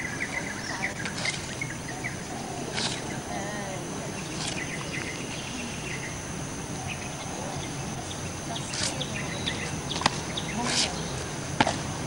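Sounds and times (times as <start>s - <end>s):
insects chirping: 0.0s - 12.0s
steady high hiss: 0.0s - 12.0s.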